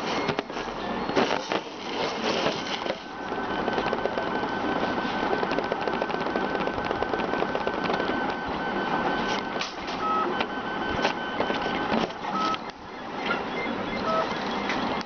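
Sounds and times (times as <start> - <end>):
printer stepper motors ticking: 0.0 - 15.0
steady high whine: 0.0 - 15.0.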